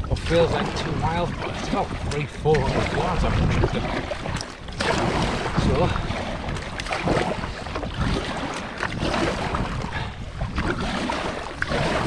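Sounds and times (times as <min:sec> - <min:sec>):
paddle splashing through water: 0:00.0 - 0:12.0
wind buffeting microphone: 0:00.0 - 0:12.0.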